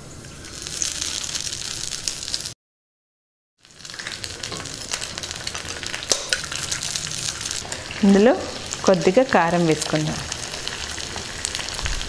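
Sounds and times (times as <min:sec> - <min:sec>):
egg sizzling in hot oil: 0:00.0 - 0:02.6, 0:03.6 - 0:12.0.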